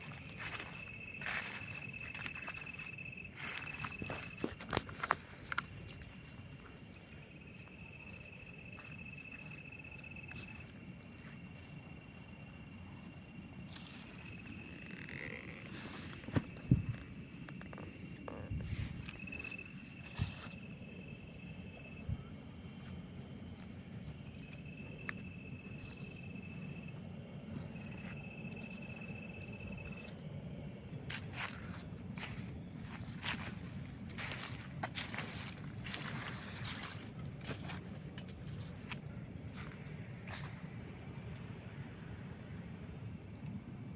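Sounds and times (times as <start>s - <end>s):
thin held insect tone: 0.0s - 43.8s
crickets trilling: 0.0s - 43.9s.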